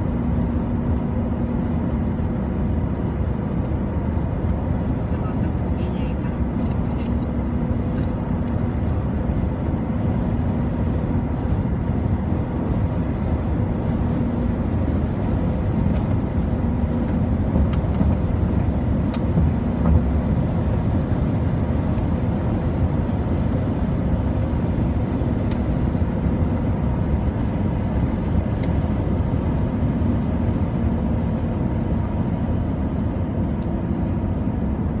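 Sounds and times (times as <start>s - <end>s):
car travelling on highway: 0.0s - 35.0s.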